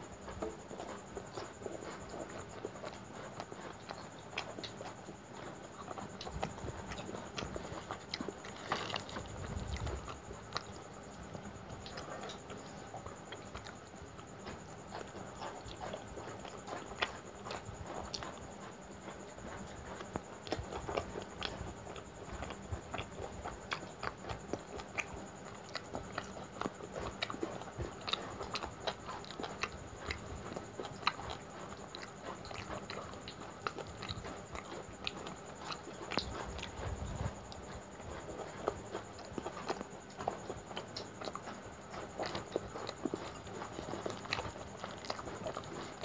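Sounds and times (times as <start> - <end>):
person chewing with lip-smacks: 0.1 - 46.0.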